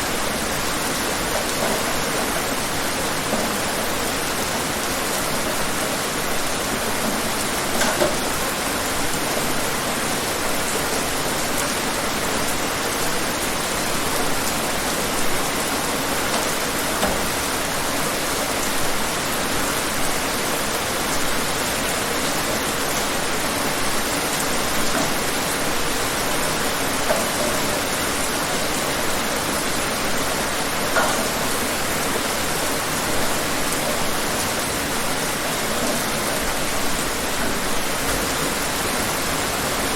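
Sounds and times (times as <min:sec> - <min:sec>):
dense rain hissing: 0:00.0 - 0:39.9.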